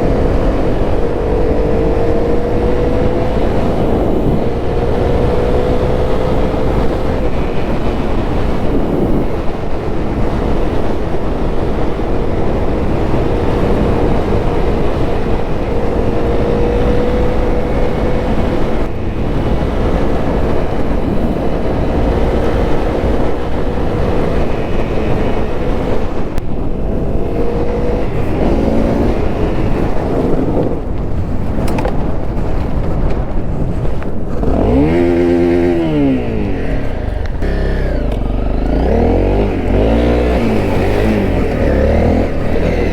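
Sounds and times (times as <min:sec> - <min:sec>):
loud steady rumble: 0:00.0 - 0:42.9
motorcycle engine running: 0:00.0 - 0:42.9.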